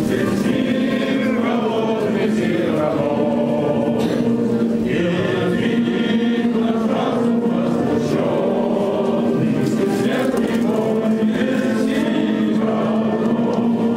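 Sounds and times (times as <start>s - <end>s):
group singing in unison: 0.0s - 13.9s.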